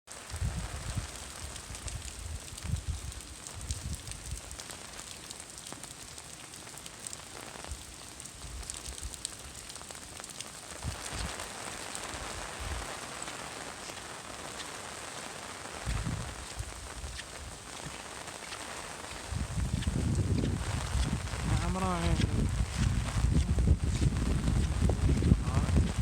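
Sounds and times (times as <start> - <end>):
rain pattering on surfaces: 0.1 - 26.0.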